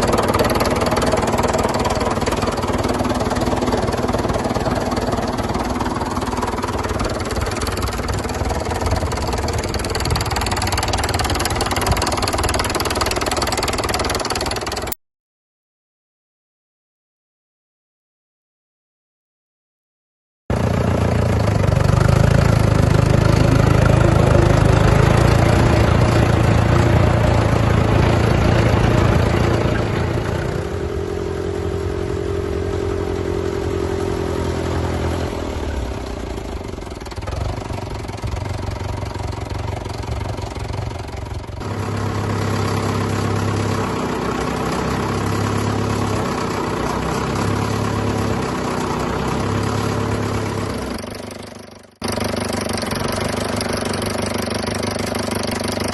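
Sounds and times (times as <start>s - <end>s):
tractor diesel engine running: 0.0s - 15.0s, 20.5s - 55.9s.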